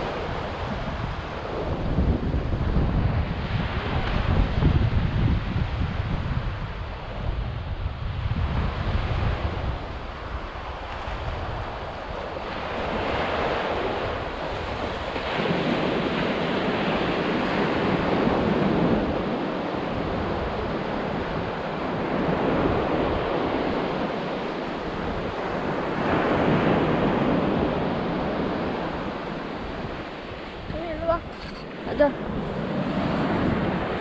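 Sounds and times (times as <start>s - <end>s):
small waves breaking on shore: 0.0s - 34.0s
wind buffeting microphone: 0.0s - 34.0s.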